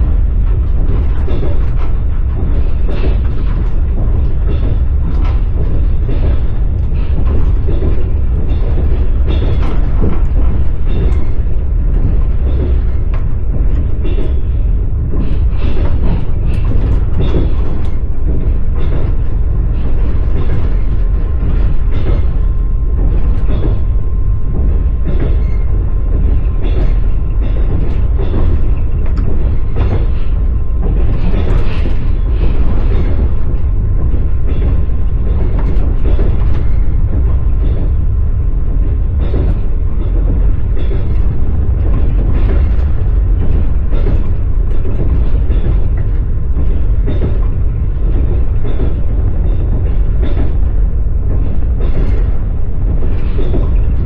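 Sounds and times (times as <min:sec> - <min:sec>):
train rumbling on track: 0:00.0 - 0:54.0
wheels clicking over rail joints: 0:00.0 - 0:54.0.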